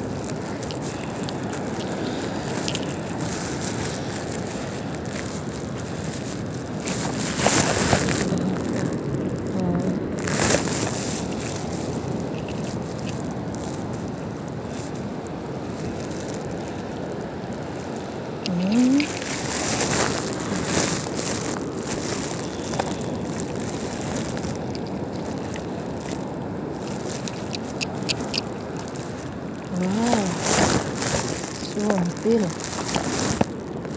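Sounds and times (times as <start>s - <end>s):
surf on a beach: 0.0s - 33.9s
wind on microphone: 0.0s - 33.9s.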